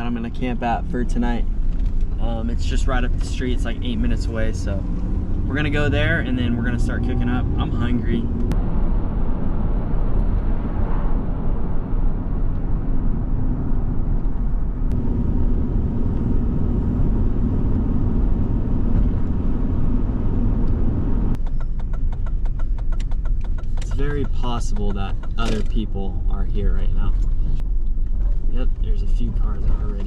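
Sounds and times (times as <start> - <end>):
road rumble and engine hum: 0.0 - 30.0.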